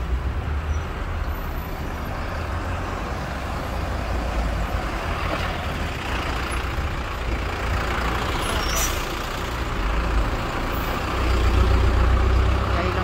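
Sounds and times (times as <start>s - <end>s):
heavy truck engine rumbling: 0.0s - 13.0s
street traffic: 0.0s - 13.0s.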